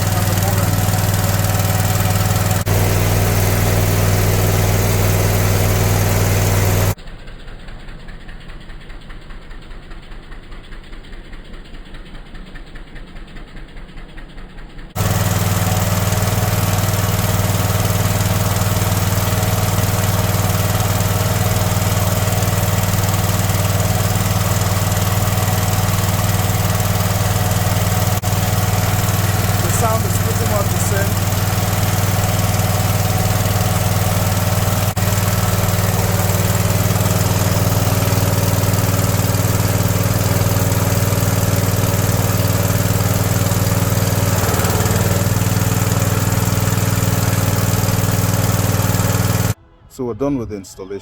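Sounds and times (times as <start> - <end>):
generator running: 0.0 - 49.6.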